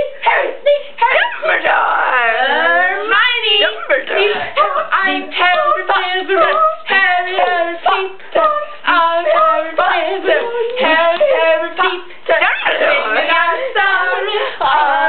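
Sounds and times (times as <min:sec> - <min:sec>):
voices singing a rhythmic chant: 0:00.0 - 0:15.0.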